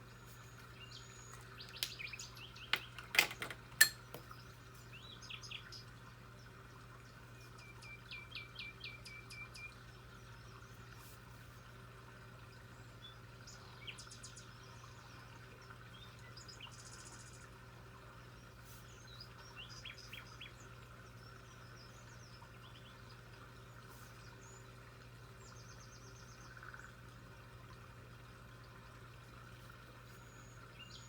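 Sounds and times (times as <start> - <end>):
faint birdsong chirps and trills: 0.0 - 31.0.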